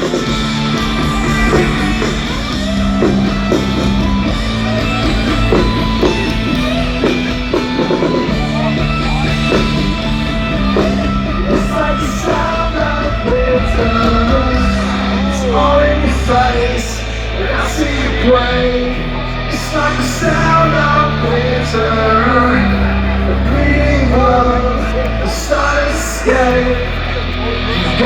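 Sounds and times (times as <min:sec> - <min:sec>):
electric guitar: 0:00.0 - 0:28.0
steady bass notes: 0:00.0 - 0:28.0.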